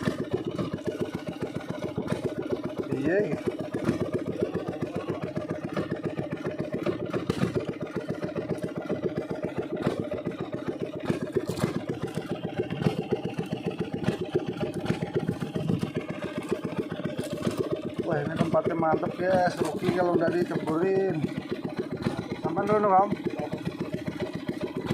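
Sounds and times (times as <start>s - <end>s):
boat engine running: 0.0s - 24.9s.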